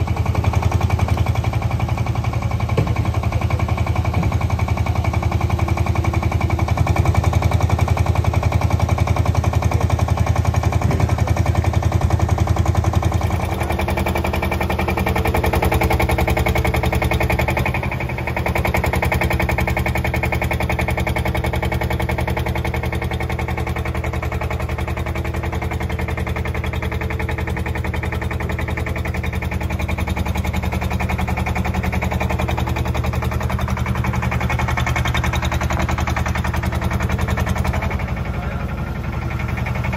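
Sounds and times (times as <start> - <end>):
engine chugging: 0.0 - 39.9.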